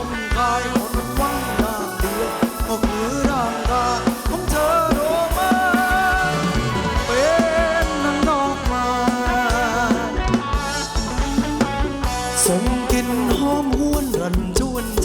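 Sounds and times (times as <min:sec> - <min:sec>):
drum kit beat: 0:00.0 - 0:15.0
instrumental band melody: 0:00.0 - 0:15.0.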